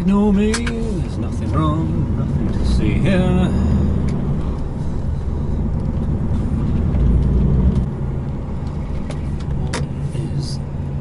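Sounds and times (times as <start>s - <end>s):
road noise: 0.0s - 11.0s
truck engine drone from cab: 0.0s - 11.0s.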